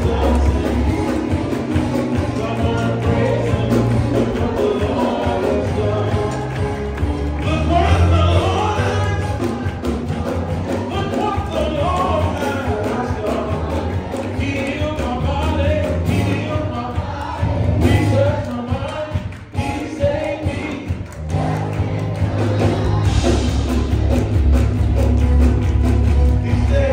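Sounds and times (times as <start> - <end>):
gospel music with singing: 0.0 - 26.9.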